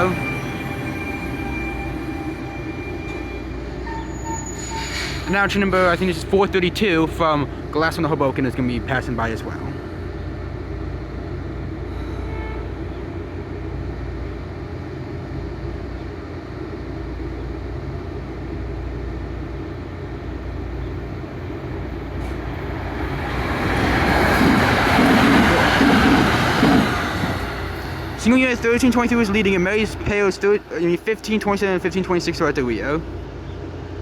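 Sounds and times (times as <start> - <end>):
electric train rumbling past: 0.0 - 34.0.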